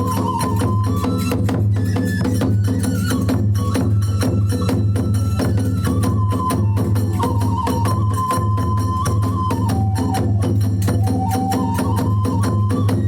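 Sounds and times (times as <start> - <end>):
hand cymbals clashing: 0.0 - 12.3
bamboo flute melody: 0.0 - 13.0
fast drum strokes: 0.0 - 13.0.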